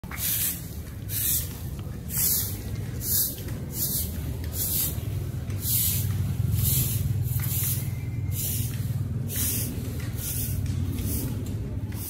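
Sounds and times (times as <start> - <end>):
broom sweeping concrete: 0.0 - 12.0
steady low rumble: 0.0 - 12.0.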